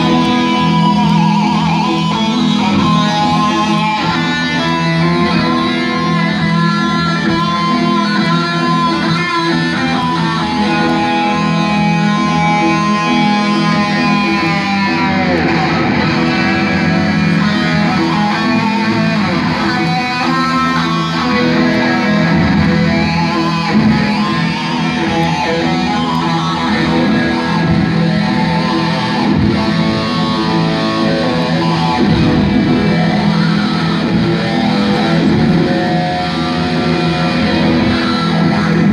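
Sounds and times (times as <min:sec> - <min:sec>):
heavy metal electric guitar: 0:00.0 - 0:38.9.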